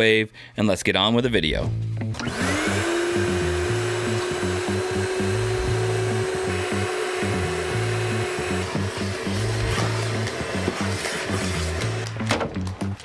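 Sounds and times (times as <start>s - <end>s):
background music with bass line: 1.2s - 13.0s.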